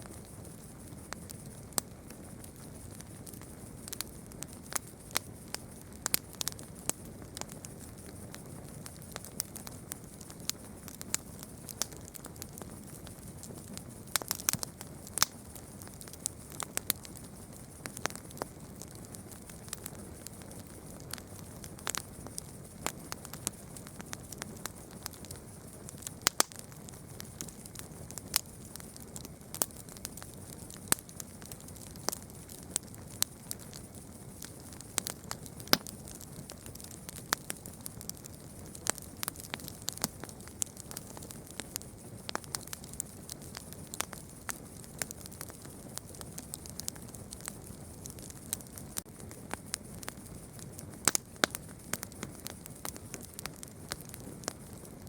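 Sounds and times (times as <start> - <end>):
campfire crackling and popping: 0.0 - 55.0
soft steady hiss: 0.0 - 55.0.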